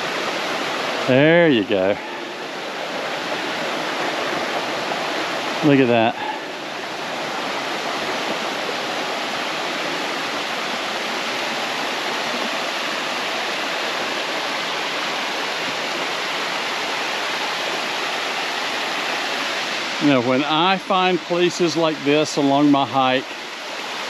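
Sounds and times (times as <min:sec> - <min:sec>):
water rushing over rock: 0:00.0 - 0:24.0.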